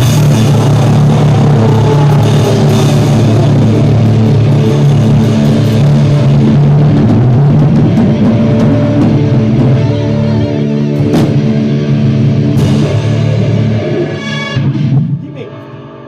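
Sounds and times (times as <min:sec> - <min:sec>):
electric guitar playing: 0:00.0 - 0:15.1
drum kit with cymbal hits: 0:00.0 - 0:15.6.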